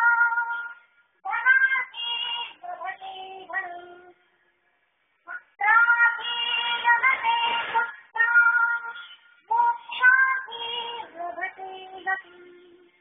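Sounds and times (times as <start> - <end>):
high voice singing devotional song: 0.0 - 4.3, 5.3 - 13.0.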